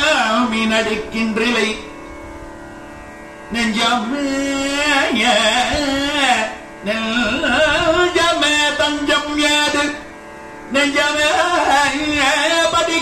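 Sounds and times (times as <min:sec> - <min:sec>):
man singing into a microphone: 0:00.0 - 0:02.0, 0:03.5 - 0:13.0
faint steady drone: 0:00.0 - 0:13.0.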